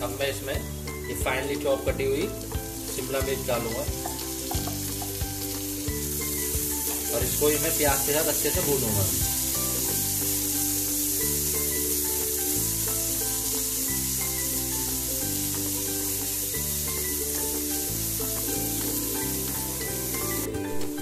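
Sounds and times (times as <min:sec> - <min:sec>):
soft background music: 0:00.0 - 0:21.0
vegetables sizzling in a frying pan: 0:00.0 - 0:21.0.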